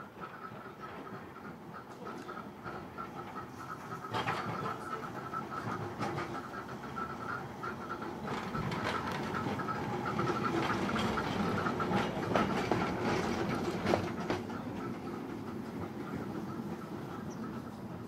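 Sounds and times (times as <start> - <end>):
tram passing on rails: 0.0 - 18.0
tram wheel clicks: 1.9 - 18.0.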